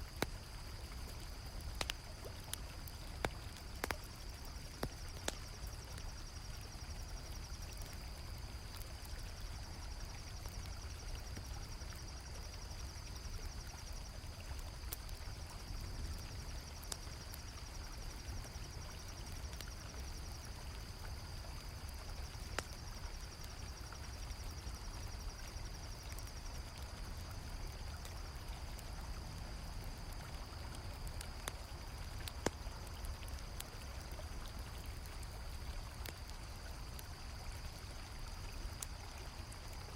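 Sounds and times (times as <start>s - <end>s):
campfire crackling: 0.0s - 39.9s
crickets trilling: 0.0s - 39.9s.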